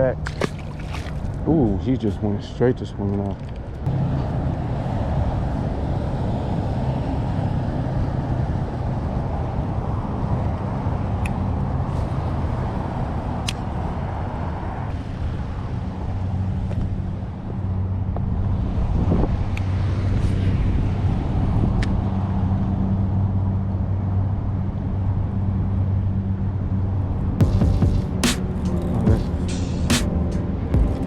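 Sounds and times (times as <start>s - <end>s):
low rumble of motor traffic: 0.0s - 31.0s.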